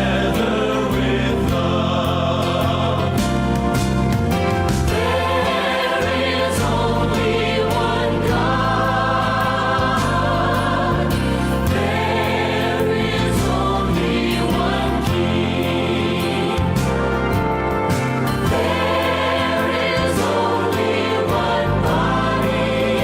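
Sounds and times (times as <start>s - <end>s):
choir singing a hymn: 0.0s - 23.0s
sustained instrumental bass notes: 0.0s - 23.0s.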